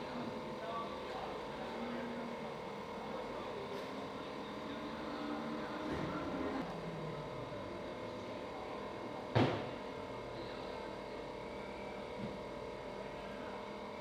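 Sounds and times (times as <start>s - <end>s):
hum with held tones: 0.0s - 14.0s.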